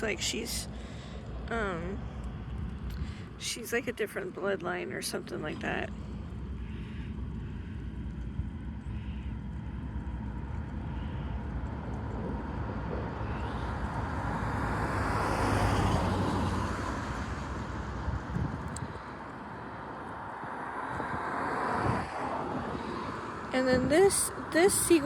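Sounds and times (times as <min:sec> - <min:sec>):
passing traffic rumble: 0:00.0 - 0:25.0
vehicle passing by: 0:00.0 - 0:25.0.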